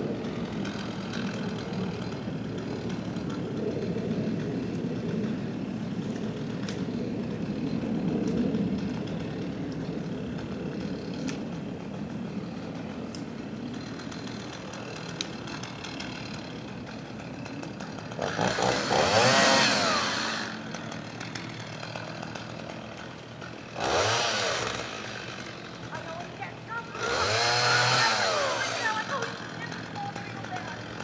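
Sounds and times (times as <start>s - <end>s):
chainsaw revving and cutting: 0.0s - 7.8s, 10.3s - 12.9s, 13.6s - 31.0s.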